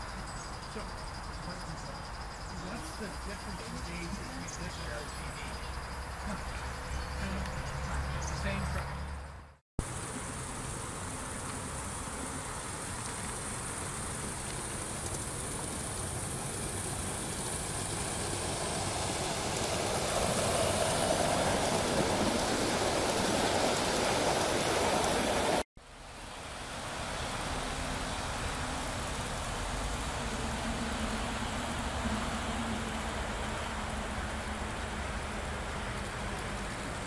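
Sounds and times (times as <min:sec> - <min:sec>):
model train rolling on track: 0:00.0 - 0:09.0, 0:09.8 - 0:25.6, 0:27.2 - 0:37.0.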